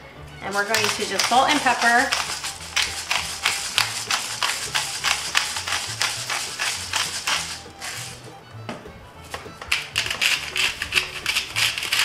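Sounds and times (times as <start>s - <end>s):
soft background music: 0.0s - 12.0s
pepper grinder clicking: 0.5s - 8.2s, 9.6s - 12.0s.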